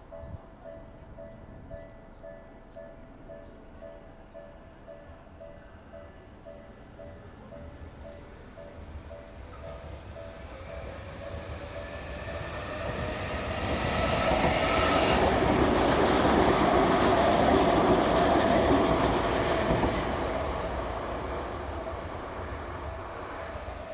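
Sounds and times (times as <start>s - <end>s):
electric train passing: 0.1s - 23.9s.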